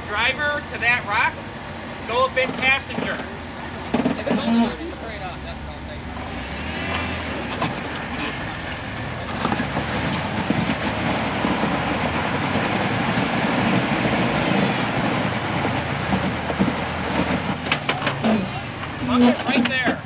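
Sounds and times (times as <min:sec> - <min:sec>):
vehicle engine under load: 0:00.0 - 0:20.0.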